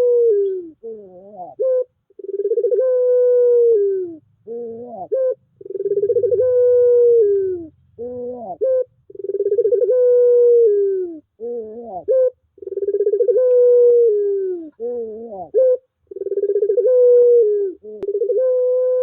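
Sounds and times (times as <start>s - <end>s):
turtle dove cooing: 0.0s - 19.0s.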